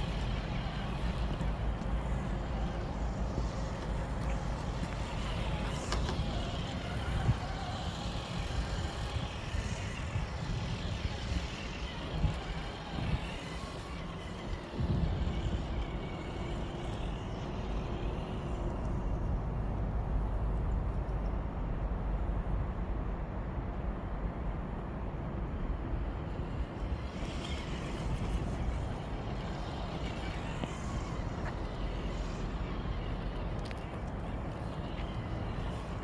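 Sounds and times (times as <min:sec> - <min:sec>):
highway traffic rumble: 0:00.0 - 0:36.0.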